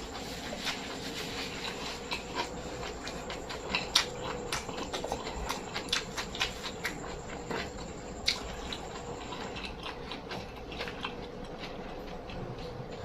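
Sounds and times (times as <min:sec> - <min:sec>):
faint steady hum: 0:00.0 - 0:13.0
person chewing with wet clicks: 0:00.0 - 0:13.0.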